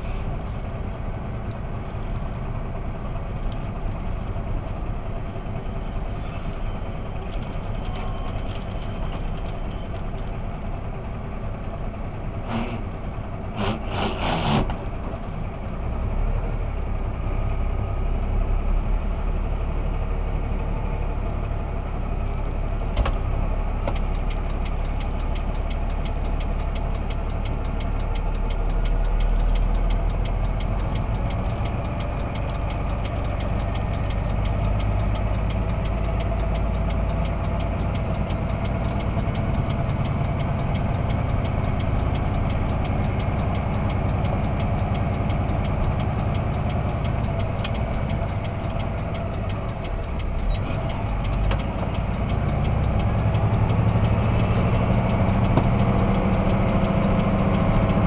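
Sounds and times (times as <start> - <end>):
road noise: 0.0 - 58.0
truck engine running steadily: 0.0 - 58.0.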